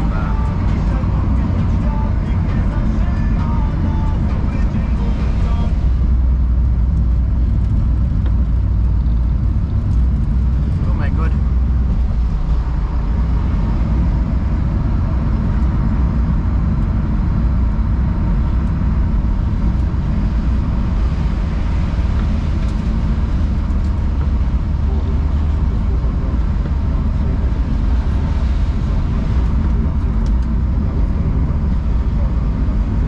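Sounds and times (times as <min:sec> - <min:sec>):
engine and road drone inside car: 0:00.0 - 0:33.0.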